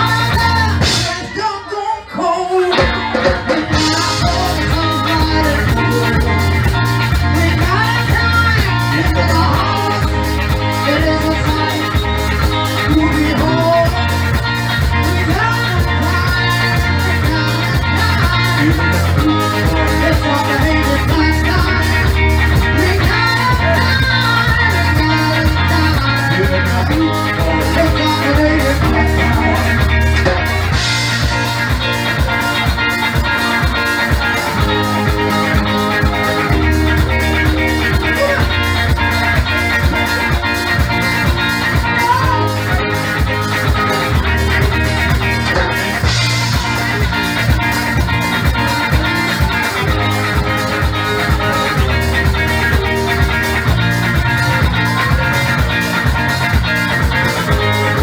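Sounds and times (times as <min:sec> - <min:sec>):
repeating bass line: 0:00.0 - 0:01.4, 0:03.0 - 0:58.0
drum kit beat: 0:00.0 - 0:01.6, 0:02.7 - 0:58.0
upbeat calypso band music: 0:00.0 - 0:58.0.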